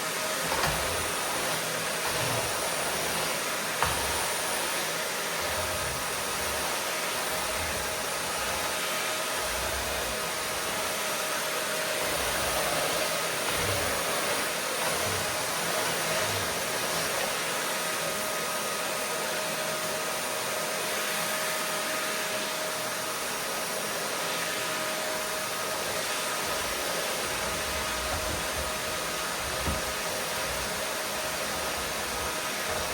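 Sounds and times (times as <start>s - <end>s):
vacuum cleaner motor running: 0.0s - 32.9s.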